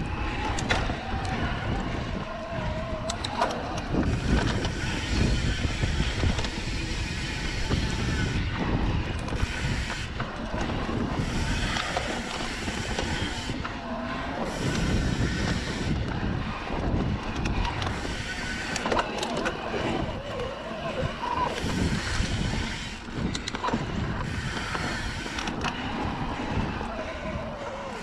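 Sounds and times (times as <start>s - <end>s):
bike tyre noise: 0.0s - 28.0s
wind buffeting microphone: 0.0s - 28.0s.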